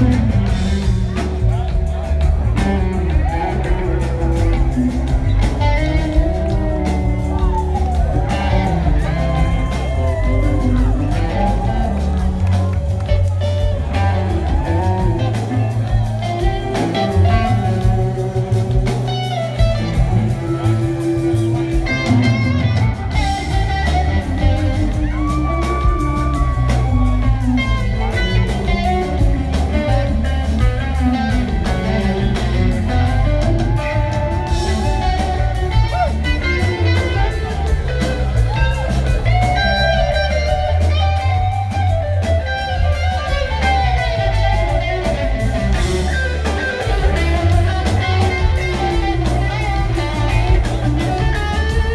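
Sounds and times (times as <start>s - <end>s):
blues-rock band playing: 0.0s - 51.9s
electric guitar: 0.0s - 51.9s.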